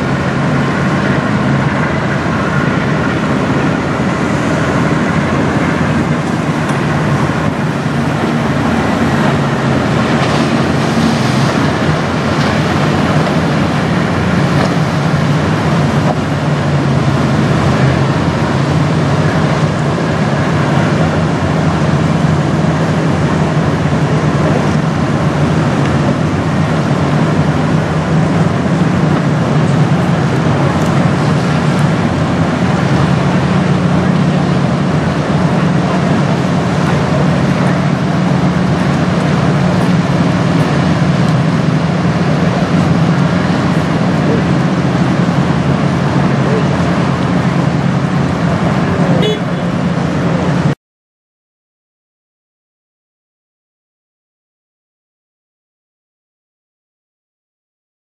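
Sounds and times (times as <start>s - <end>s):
wind noise: 0.0s - 50.7s
boat diesel engines droning: 0.0s - 50.8s
rushing water: 0.0s - 50.8s.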